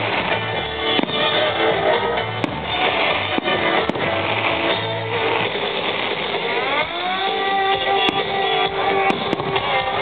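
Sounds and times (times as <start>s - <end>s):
firework shells bursting: 0.0s - 10.0s
rock music with guitar and drums: 0.0s - 10.0s.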